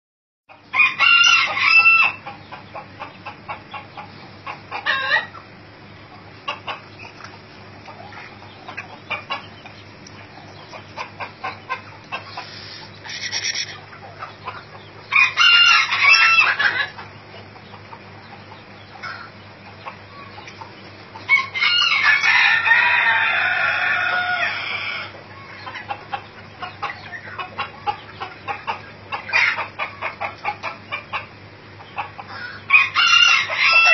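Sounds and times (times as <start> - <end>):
hens clucking: 0.5 - 33.9
roosters crowing: 0.5 - 33.9.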